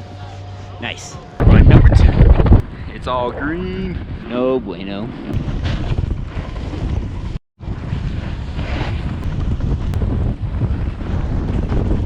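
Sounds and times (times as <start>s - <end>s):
wind buffeting microphone: 1.4s - 12.0s.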